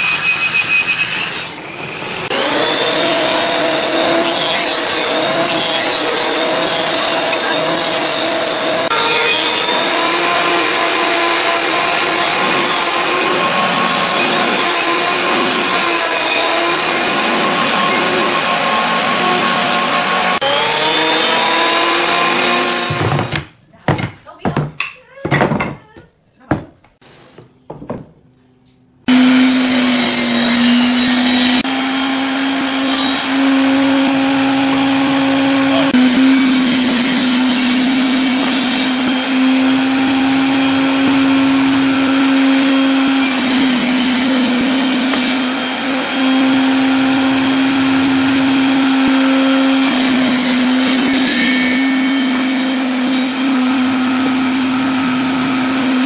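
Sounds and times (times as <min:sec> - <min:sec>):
table saw ripping wood: 0:00.0 - 0:23.5, 0:29.1 - 0:56.0.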